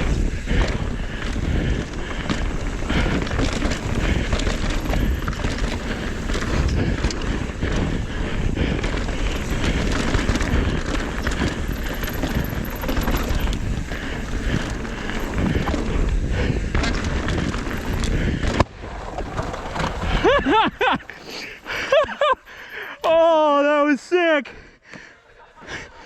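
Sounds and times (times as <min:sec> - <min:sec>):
wind buffeting microphone: 0:00.0 - 0:22.4
bike rattling and knocking: 0:00.0 - 0:23.0
tyres rumbling over dirt: 0:00.0 - 0:23.2.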